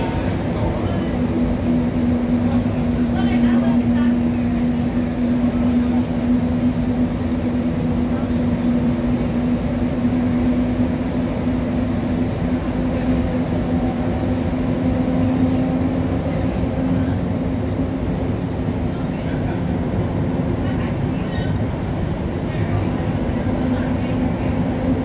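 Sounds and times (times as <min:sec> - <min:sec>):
train rumbling through tunnel: 0:00.0 - 0:25.0.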